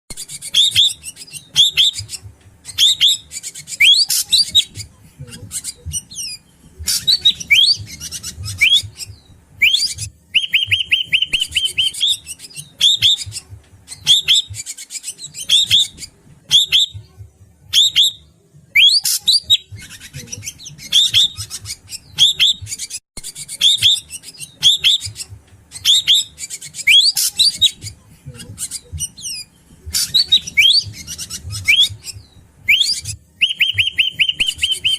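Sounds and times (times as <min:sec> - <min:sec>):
bird whistled calls: 0:00.2 - 0:04.7, 0:05.6 - 0:17.0, 0:17.7 - 0:27.8, 0:28.7 - 0:34.9.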